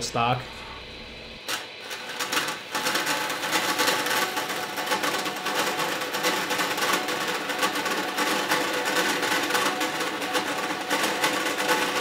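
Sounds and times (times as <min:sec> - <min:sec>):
bandsaw cutting metal: 0:01.4 - 0:12.0.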